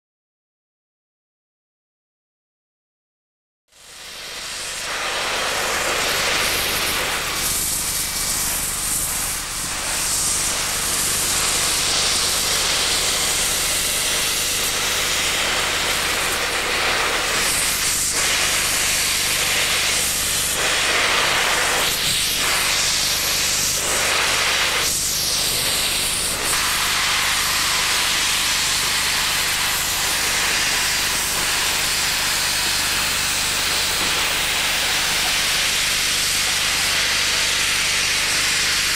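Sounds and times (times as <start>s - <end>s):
steam hissing from locomotive: 3.7s - 38.9s.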